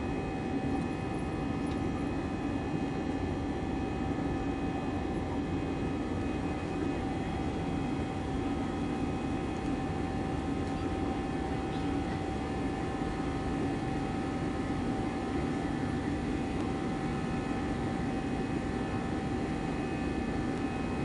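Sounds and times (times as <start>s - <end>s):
jet engines running: 0.0s - 21.0s
steady engine whine: 0.0s - 21.0s.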